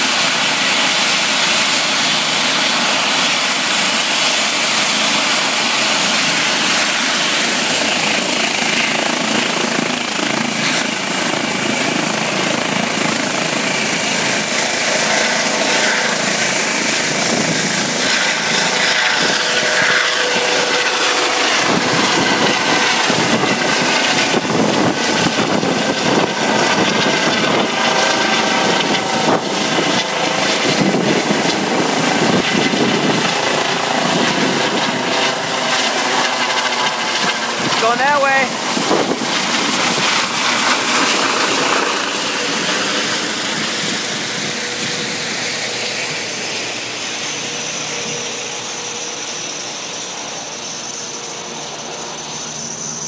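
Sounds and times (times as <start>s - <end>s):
helicopter rotor blade beat: 0.0s - 53.0s
helicopter turbine whine: 0.0s - 53.0s.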